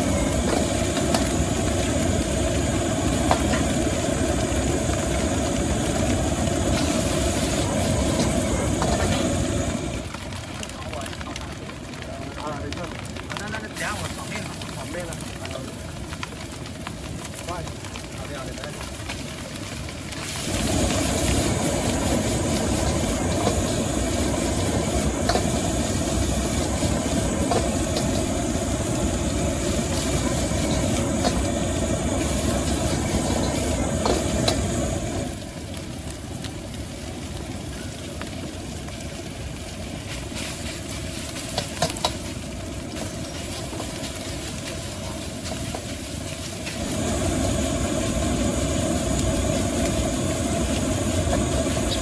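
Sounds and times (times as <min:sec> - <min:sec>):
gas burner rumble and hiss: 0:00.0 - 0:52.0.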